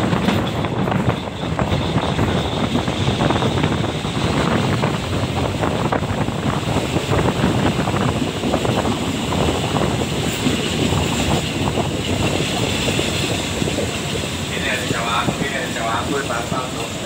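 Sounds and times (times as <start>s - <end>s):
train wheels clattering: 0.0s - 17.0s
wind buffeting microphone: 0.0s - 17.0s.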